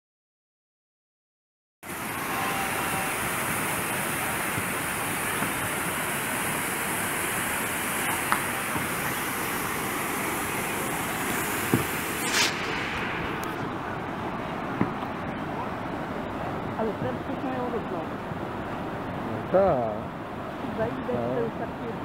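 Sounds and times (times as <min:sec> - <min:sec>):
whitewater rushing: 0:01.9 - 0:22.0.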